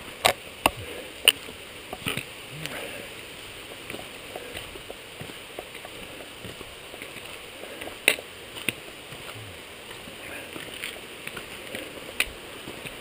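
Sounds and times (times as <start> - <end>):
footsteps on rocky trail: 0.0 - 13.0
steady hiss: 0.0 - 13.0
trekking poles clicking on rock: 0.2 - 2.9, 3.8 - 13.0.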